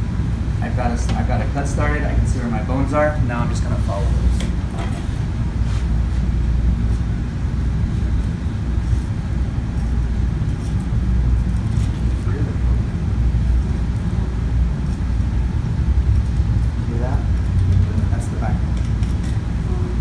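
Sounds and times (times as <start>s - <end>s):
low room rumble: 0.0s - 20.0s.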